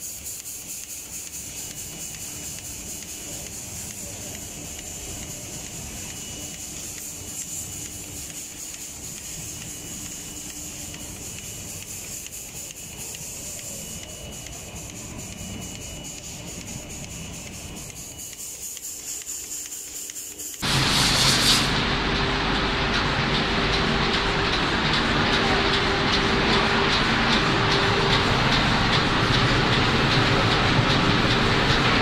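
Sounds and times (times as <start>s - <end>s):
conveyor ticking: 0.0s - 20.7s, 21.8s - 32.0s
spray-painting machine hiss and rumble: 0.0s - 32.0s.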